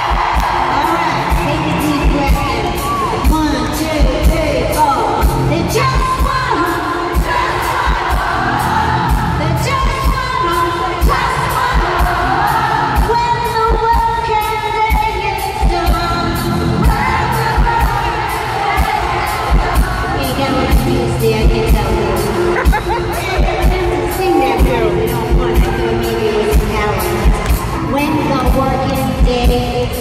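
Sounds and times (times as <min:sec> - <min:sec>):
steady drum beat: 0:00.0 - 0:30.0
woman singing into a microphone: 0:00.7 - 0:07.6, 0:09.4 - 0:30.0.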